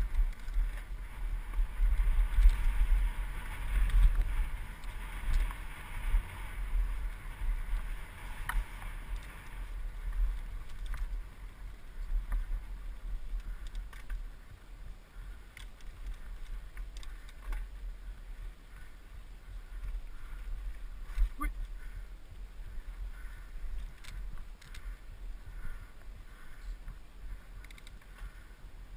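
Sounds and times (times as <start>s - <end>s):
bike clicks and rattles: 0.0s - 28.9s
wind rumble: 0.0s - 28.9s.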